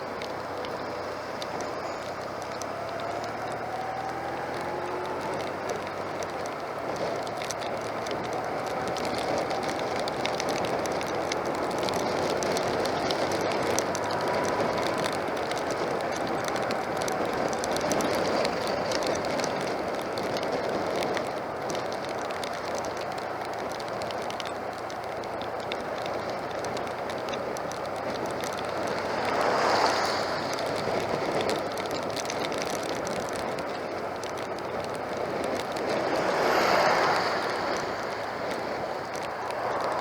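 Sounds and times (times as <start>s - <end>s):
rain ticking on camera: 0.0s - 40.0s
wind and tyre spray rushing: 0.0s - 40.0s.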